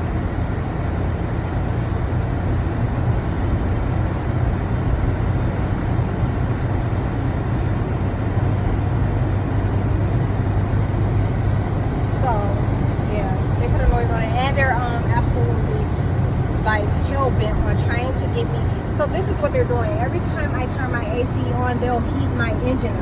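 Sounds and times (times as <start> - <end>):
car cabin low rumble: 0.0 - 23.0.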